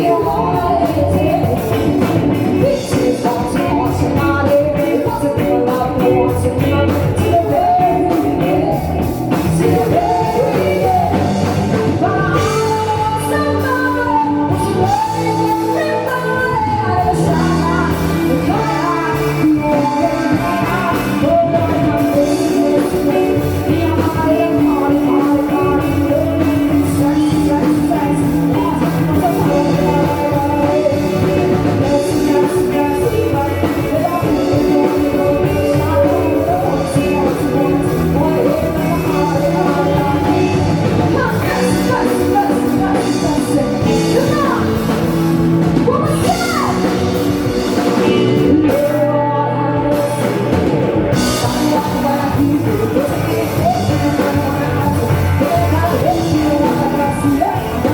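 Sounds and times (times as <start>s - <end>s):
rock and roll song with singing: 0.0s - 57.9s.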